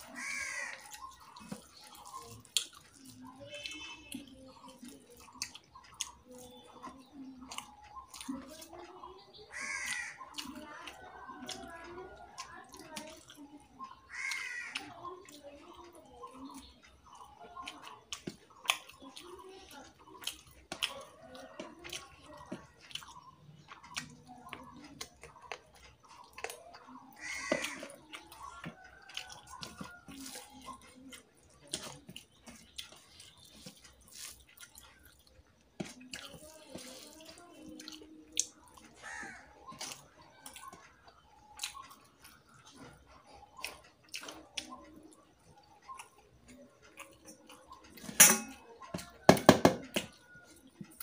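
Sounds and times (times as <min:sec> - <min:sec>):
fingers squishing rice: 0:00.0 - 0:48.1
person chewing food: 0:00.0 - 0:51.0.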